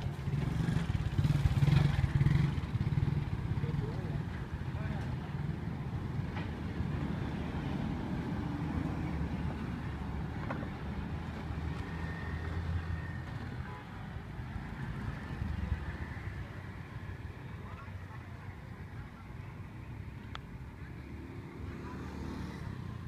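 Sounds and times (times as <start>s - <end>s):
low street rumble: 0.0s - 23.0s.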